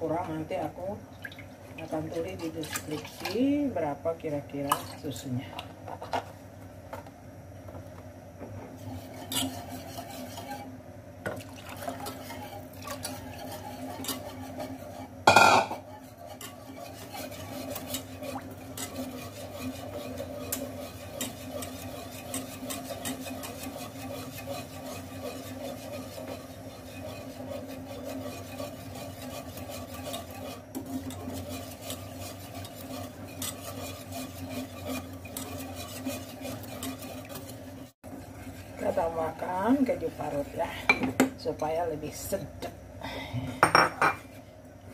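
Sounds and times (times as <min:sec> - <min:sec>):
whisk scraping a metal pan: 0:01.8 - 0:05.4, 0:08.7 - 0:10.8, 0:11.7 - 0:42.3.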